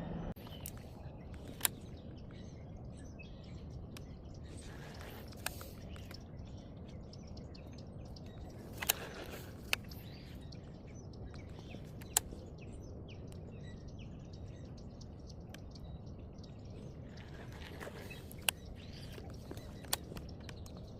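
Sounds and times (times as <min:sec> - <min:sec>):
low outdoor rumble: 0:00.0 - 0:20.9
small birds chirping: 0:00.2 - 0:20.9.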